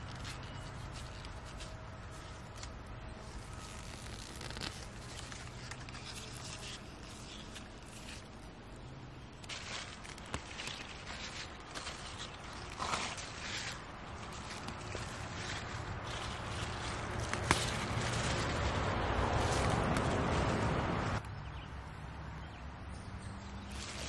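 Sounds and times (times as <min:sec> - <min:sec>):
leaves picked off plants: 0:00.0 - 0:08.5, 0:09.3 - 0:21.3, 0:23.6 - 0:24.0
onions pulled from soil: 0:00.0 - 0:21.2, 0:23.6 - 0:24.0.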